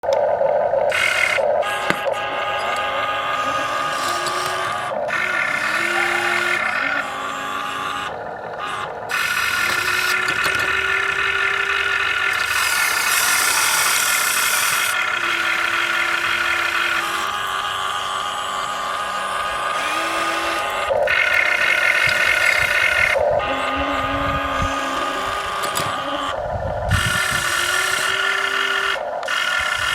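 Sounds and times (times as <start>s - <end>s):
machinery high whine: 0.0s - 29.9s.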